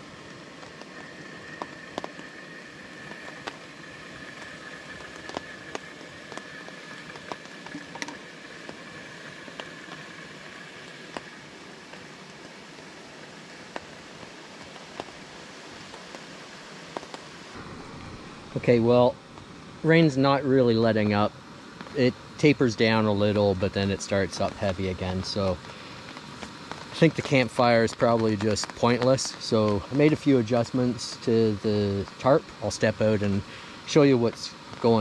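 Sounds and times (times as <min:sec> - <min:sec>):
rain falling on a tarp: 0:00.0 - 0:35.0.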